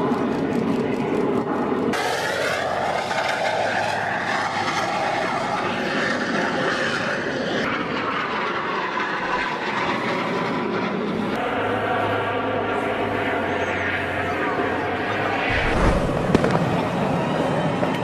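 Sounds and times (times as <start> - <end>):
airplane engine in flight: 0.0 - 18.0.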